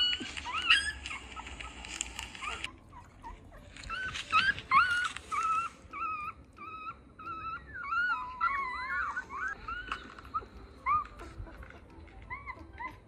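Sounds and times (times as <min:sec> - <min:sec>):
puppy whimpering: 0:00.0 - 0:13.0.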